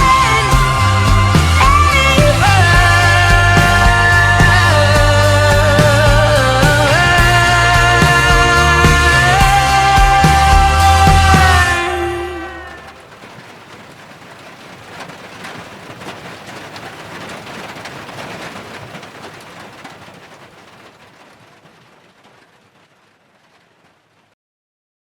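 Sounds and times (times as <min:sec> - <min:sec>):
rain falling: 0:00.0 - 0:24.4.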